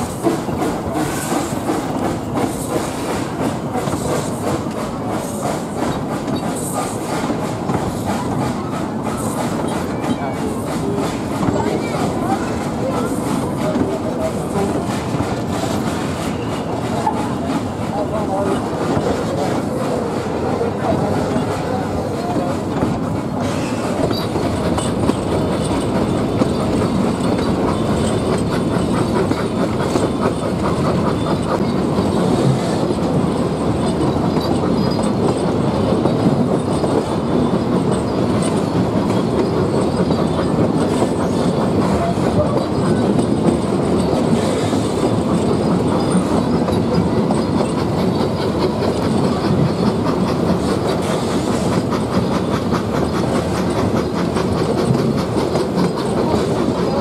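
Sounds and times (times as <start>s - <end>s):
train carriage rattle: 0.0s - 57.0s
wheels clacking on track: 0.0s - 57.0s.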